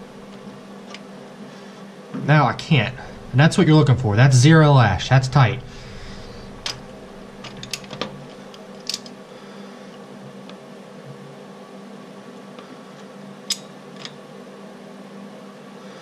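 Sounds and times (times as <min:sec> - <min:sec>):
steady fan-like hum: 0:00.0 - 0:16.0.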